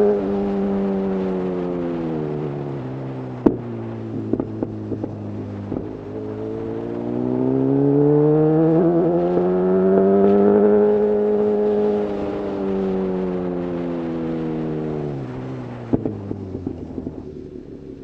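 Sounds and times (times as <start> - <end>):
motorcycle engine revving: 0.0 - 18.0
wind noise: 0.0 - 18.0.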